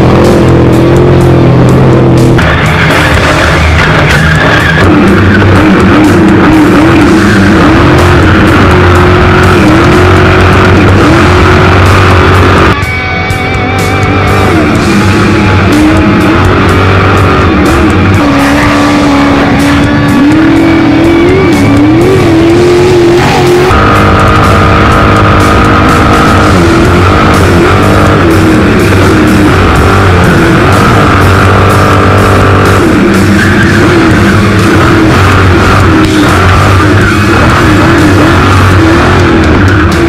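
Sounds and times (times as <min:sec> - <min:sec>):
rock music with drum beat: 0:00.0 - 0:40.0
truck engine at high revs: 0:00.0 - 0:40.0.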